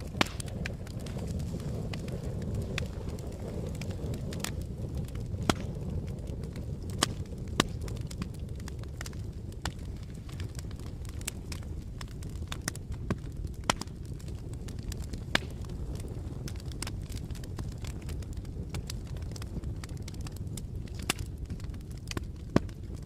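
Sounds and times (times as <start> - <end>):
burning wood crackling and popping: 0.0 - 23.0
campfire flames rumbling: 0.0 - 23.0.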